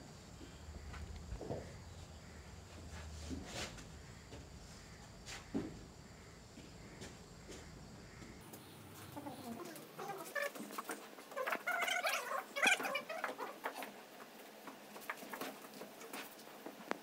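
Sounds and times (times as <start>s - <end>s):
knocks and scuffling: 0.4s - 17.0s.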